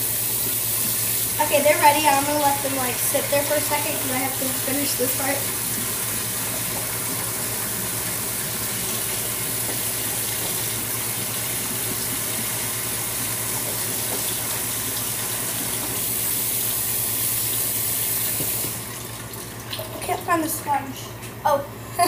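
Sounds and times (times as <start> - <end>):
tap water running into sink: 0.0 - 20.8.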